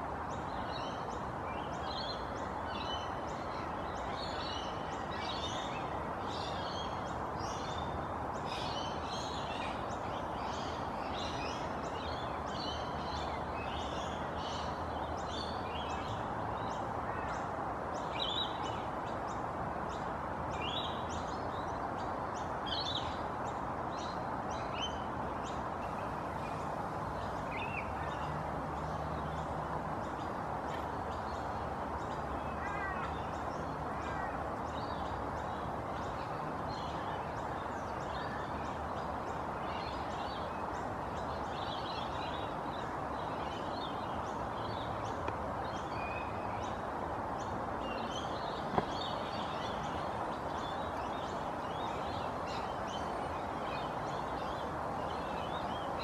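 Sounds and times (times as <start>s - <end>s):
small birds chirping: 0.2s - 56.0s.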